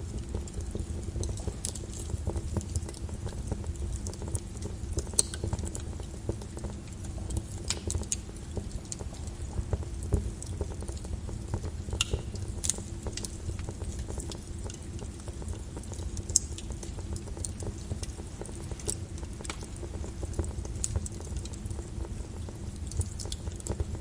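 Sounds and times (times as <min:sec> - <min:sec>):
lava crackling and popping: 0:00.0 - 0:24.0.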